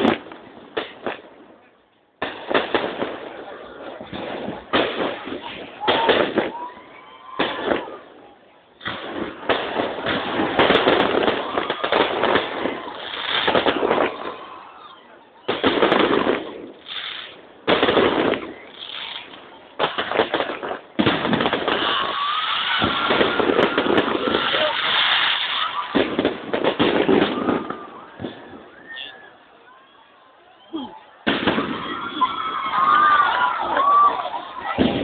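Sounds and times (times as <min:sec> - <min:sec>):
fireworks bangs and crackling: 0:00.0 - 0:29.6, 0:30.8 - 0:35.0.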